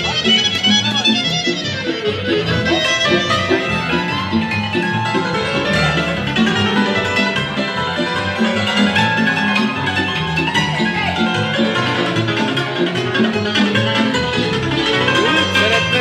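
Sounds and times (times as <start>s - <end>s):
band playing lively dance music: 0.0s - 16.0s
cimbalom hammered strings: 0.0s - 16.0s.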